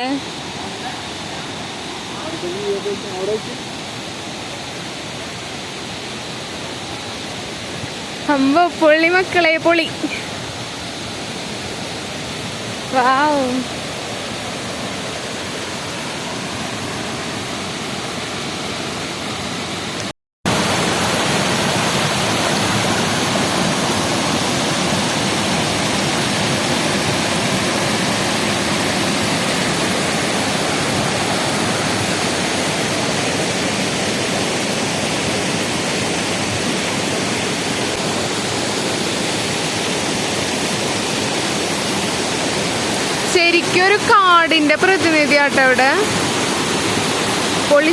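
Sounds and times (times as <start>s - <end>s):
waterfall roaring: 0.0s - 47.9s.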